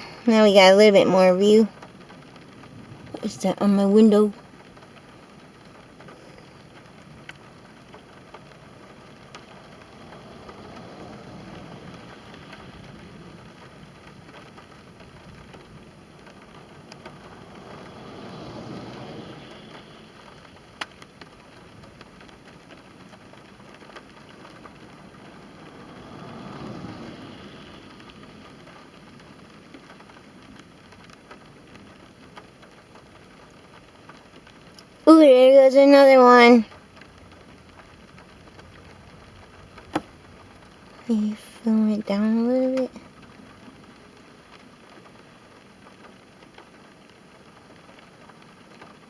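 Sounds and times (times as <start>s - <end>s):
rain pattering on a car: 0.0s - 49.0s.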